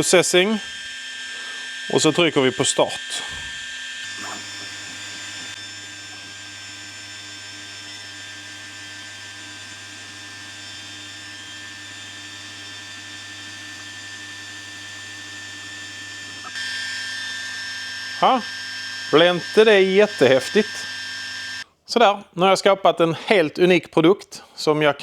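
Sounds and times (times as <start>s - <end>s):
laser engraver humming and whining: 0.0s - 21.6s.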